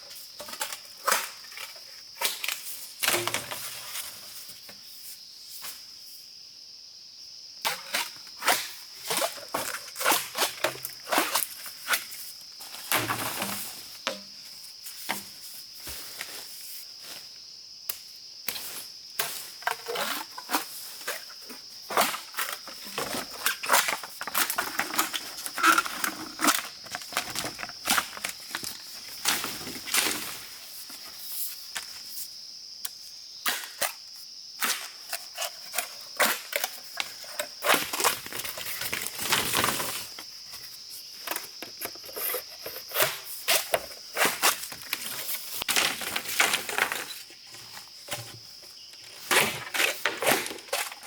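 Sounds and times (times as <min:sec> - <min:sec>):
insects droning: 0:00.0 - 0:51.0.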